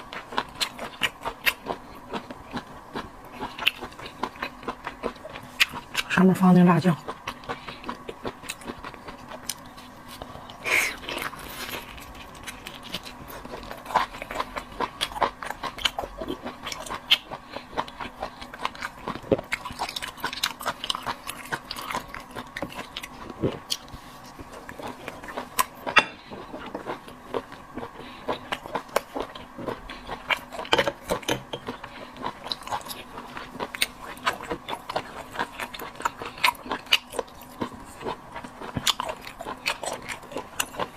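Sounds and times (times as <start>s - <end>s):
person chewing seafood: 0.0s - 6.1s, 6.8s - 40.9s
faint steady hum: 0.0s - 40.9s.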